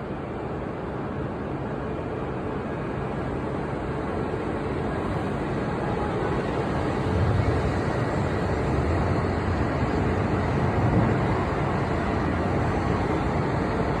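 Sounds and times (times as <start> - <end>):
train running past: 0.0 - 14.0.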